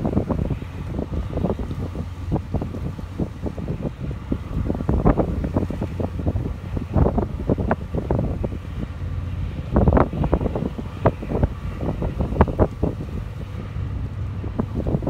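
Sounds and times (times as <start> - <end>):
low steady rumble: 0.0 - 15.0
wind buffeting microphone: 0.0 - 15.0.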